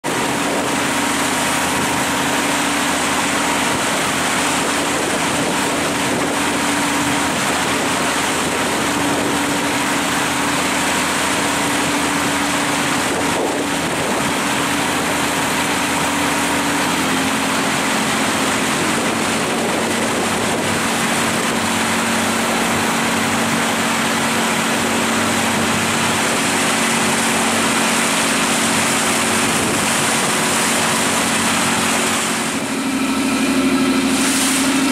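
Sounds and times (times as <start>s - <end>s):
boat engine running: 0.0s - 34.9s
water rushing: 0.0s - 34.9s
wind: 0.0s - 34.9s.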